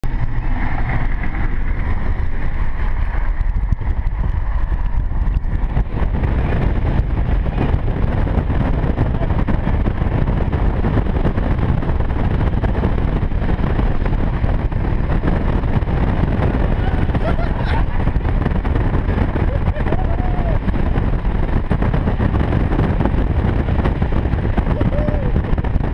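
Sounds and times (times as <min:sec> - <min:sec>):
wind and road noise in car: 0:00.0 - 0:25.9
wind buffeting microphone: 0:00.0 - 0:25.9.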